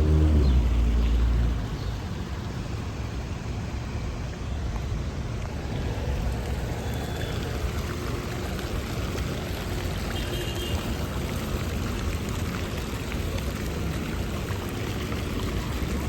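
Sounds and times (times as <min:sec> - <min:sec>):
city street rumble: 0:00.0 - 0:16.0.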